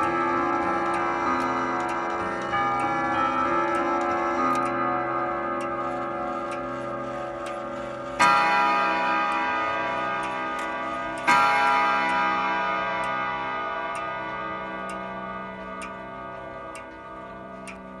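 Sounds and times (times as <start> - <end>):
clock chime rods ringing: 0.0 - 18.0
clock ticking: 0.0 - 18.0.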